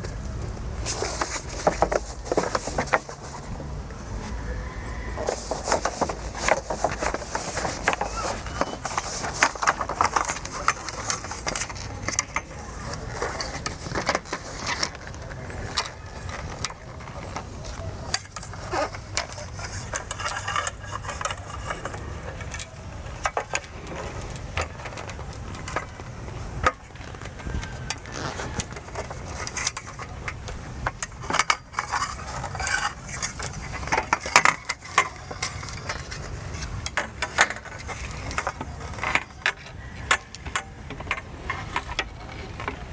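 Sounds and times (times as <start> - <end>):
faint voices: 0.0 - 42.9
camping gear clinking and knocking: 0.8 - 3.7, 5.2 - 42.9.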